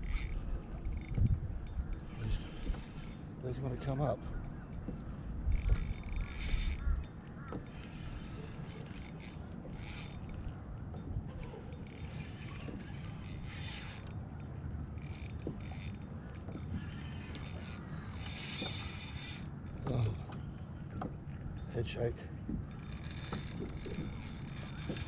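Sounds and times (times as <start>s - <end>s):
fishing reel clicking: 0.0s - 4.9s, 5.5s - 20.2s, 22.6s - 25.0s
water and wind rumble: 0.0s - 25.0s.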